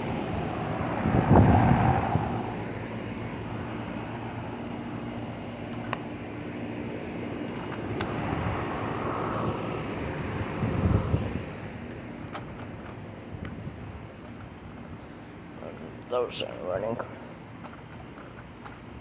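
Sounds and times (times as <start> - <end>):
air conditioner fan and compressor hum: 0.0 - 19.0.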